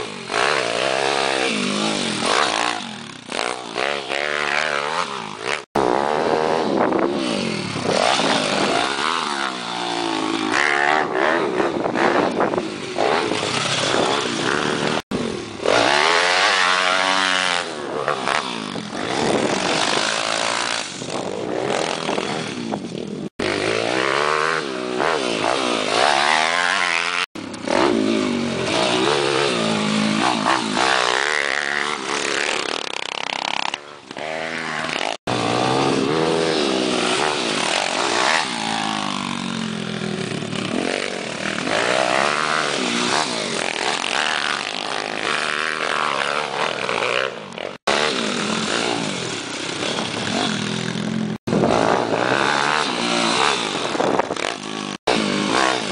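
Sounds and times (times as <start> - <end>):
motorbike engines revving: 0.0 - 55.9.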